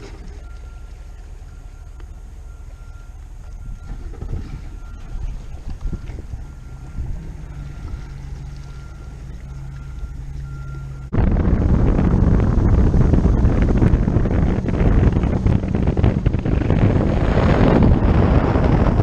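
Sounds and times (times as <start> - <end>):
low steady hum: 0.0 - 19.0
wind noise on microphone: 0.0 - 19.0.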